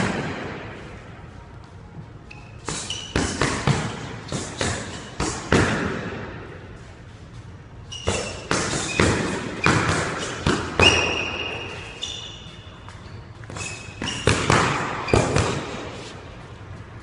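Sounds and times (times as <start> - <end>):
sneakers squeaking on floor: 0.1 - 5.9, 6.8 - 16.6.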